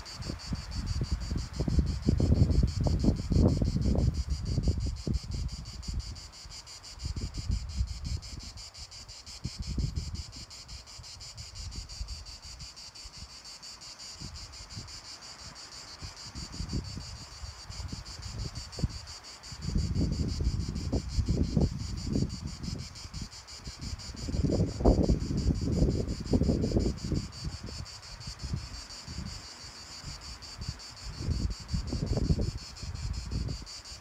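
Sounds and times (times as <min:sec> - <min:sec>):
wind buffeting microphone: 0:00.0 - 0:06.3, 0:07.0 - 0:08.7, 0:09.4 - 0:12.6, 0:16.1 - 0:34.0
insects chirping: 0:00.0 - 0:34.0.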